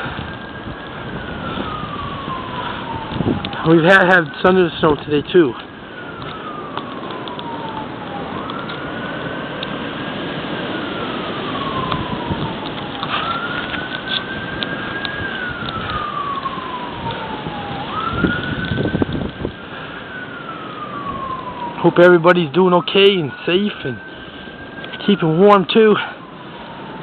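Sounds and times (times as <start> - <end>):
gusting wind: 0.0 - 27.0
siren wailing: 0.0 - 27.0.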